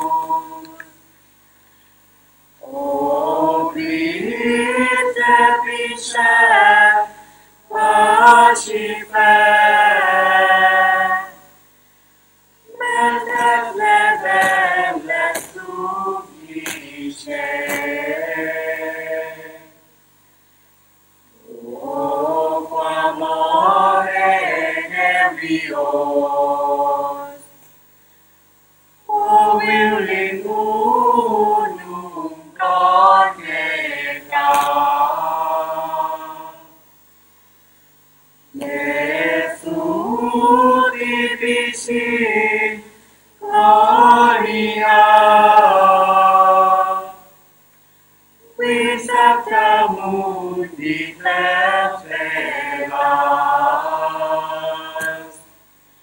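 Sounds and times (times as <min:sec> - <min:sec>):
choir singing: 0:00.0 - 0:00.9, 0:02.6 - 0:11.5, 0:12.6 - 0:19.9, 0:21.3 - 0:27.6, 0:29.1 - 0:36.8, 0:38.6 - 0:47.4, 0:48.4 - 0:55.6.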